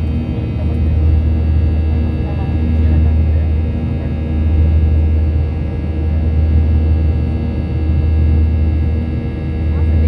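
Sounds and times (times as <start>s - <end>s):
jet engine low rumble: 0.0s - 10.0s.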